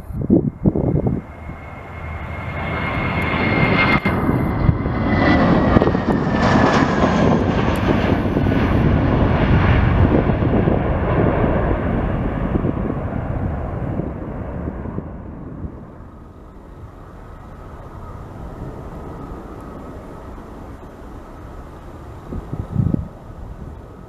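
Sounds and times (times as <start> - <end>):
high engine whine: 0.0 - 24.0
jet engines passing: 0.0 - 24.0.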